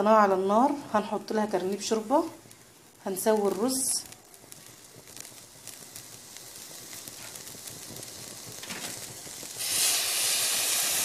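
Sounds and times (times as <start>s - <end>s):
food sizzling in pot: 0.0s - 11.0s
small crackles and pops: 0.0s - 11.0s.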